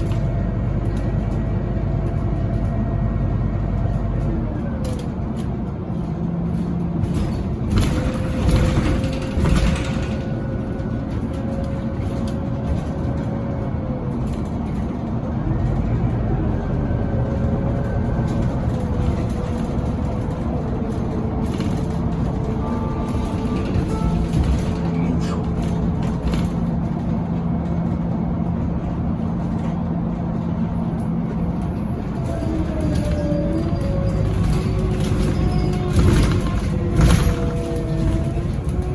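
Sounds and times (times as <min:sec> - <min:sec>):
bus engine rumble: 0:00.0 - 0:38.9
bus jolts: 0:00.0 - 0:38.9
rattly road noise: 0:00.0 - 0:38.9.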